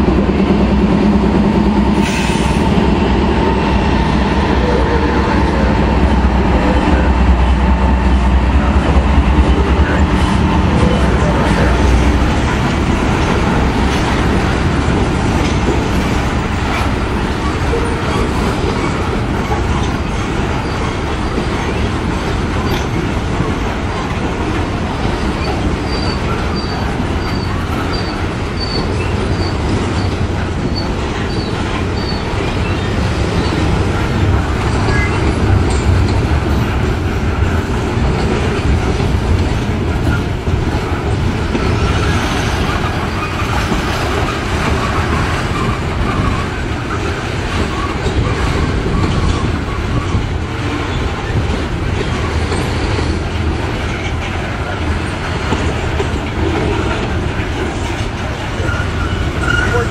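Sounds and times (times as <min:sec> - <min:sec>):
freight train rumbling over rails: 0:00.0 - 0:59.9.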